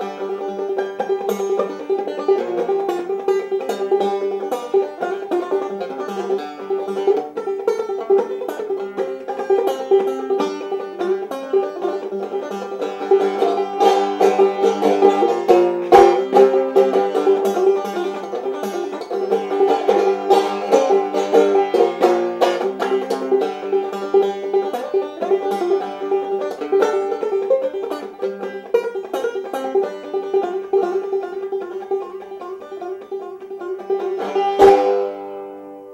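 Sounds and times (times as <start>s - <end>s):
banjo playing: 0.0s - 35.9s.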